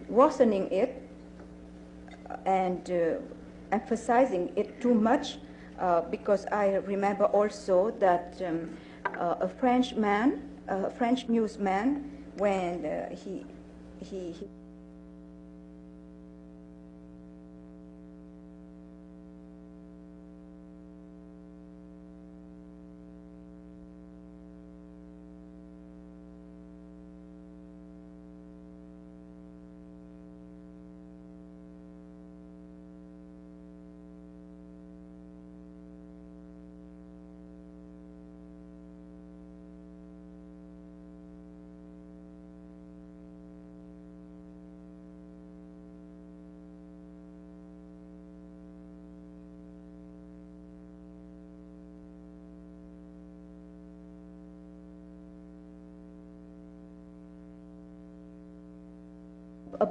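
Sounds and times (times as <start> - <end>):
buzzy electrical hum: 0.0 - 59.9.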